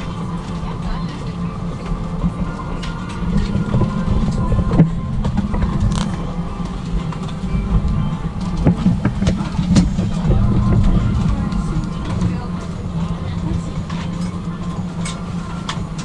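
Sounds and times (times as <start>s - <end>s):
vehicle rumble from inside: 0.0s - 16.0s.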